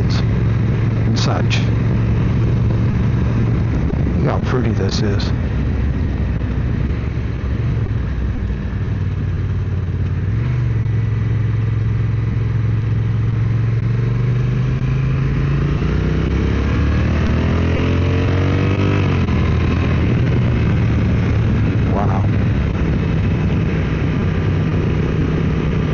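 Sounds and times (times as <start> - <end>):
wind noise: 0.0 - 10.6, 14.0 - 25.9
motorcycle engine: 0.0 - 25.9.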